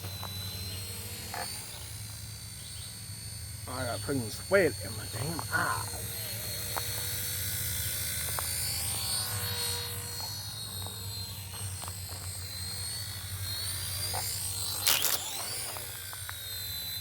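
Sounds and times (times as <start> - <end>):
low hum: 0.0 - 17.0
remote control helicopter whine: 0.0 - 17.0.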